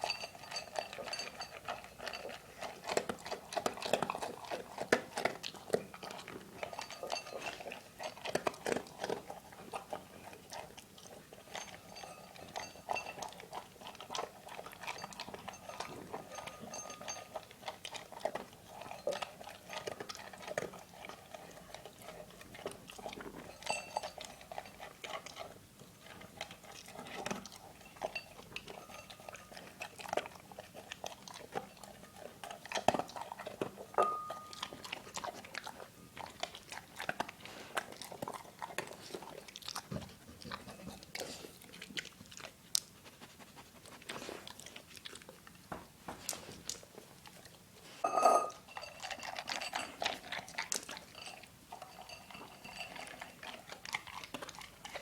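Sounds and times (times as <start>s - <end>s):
dog crunching food: 0.0s - 55.0s.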